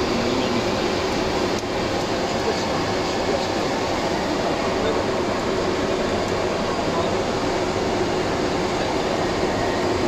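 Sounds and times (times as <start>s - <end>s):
aircraft engines droning: 0.0s - 10.0s.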